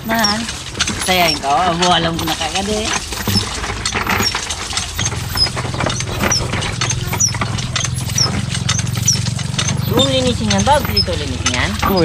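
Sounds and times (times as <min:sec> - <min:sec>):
clicks: 0:00.0 - 0:12.0
small engine humming: 0:00.0 - 0:12.0.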